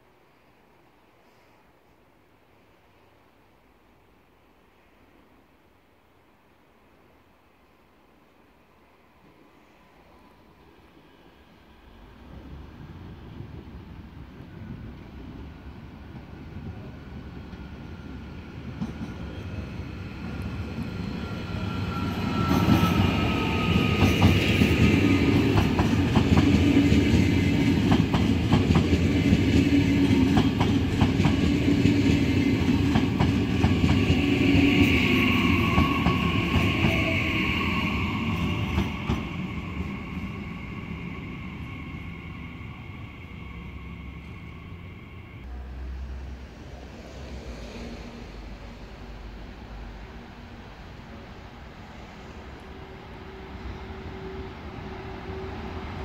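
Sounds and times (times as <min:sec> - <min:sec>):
train whine: 0:08.6 - 0:56.0
train rumble: 0:10.6 - 0:56.0.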